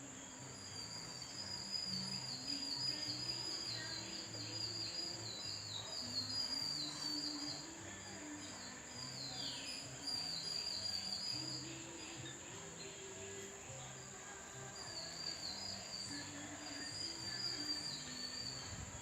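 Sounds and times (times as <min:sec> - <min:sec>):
high-pitched insect drone: 0:00.0 - 0:19.0
soft background music: 0:00.0 - 0:19.0.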